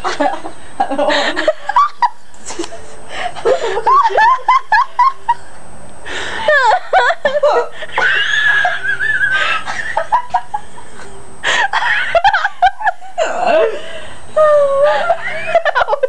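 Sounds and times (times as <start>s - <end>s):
people laughing and giggling: 0.0s - 16.0s.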